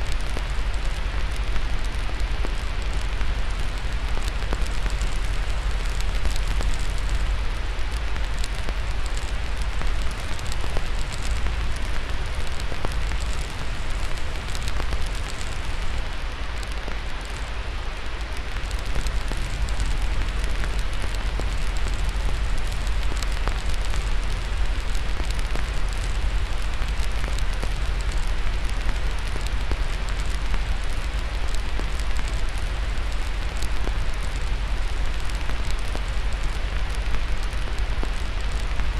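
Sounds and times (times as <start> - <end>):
fire crackling and popping: 0.0 - 38.9
white noise hiss: 0.0 - 38.9.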